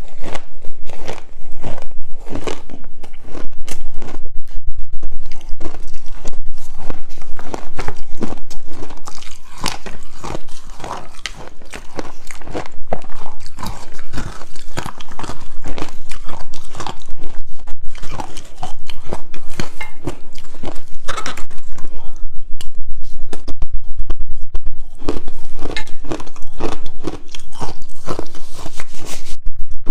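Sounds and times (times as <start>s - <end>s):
ice being chewed and crunched: 0.0s - 4.3s, 5.1s - 22.2s, 24.8s - 29.4s.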